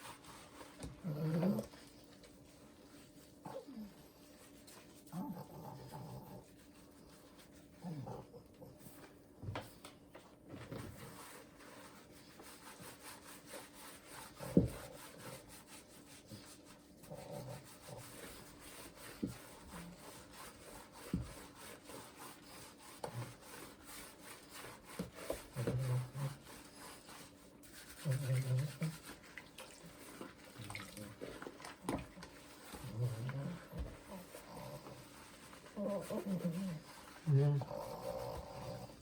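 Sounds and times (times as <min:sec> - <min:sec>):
hands rubbing dog's coat: 0:00.0 - 0:39.0.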